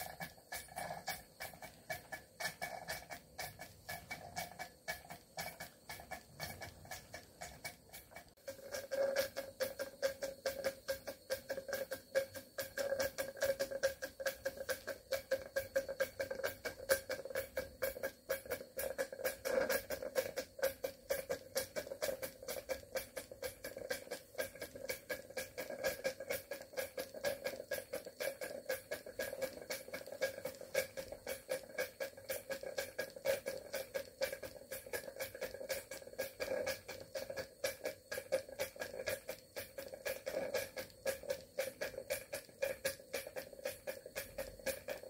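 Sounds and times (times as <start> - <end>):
steady hum: 0.0 - 45.0
steam engine exhaust chuffs: 0.0 - 45.0.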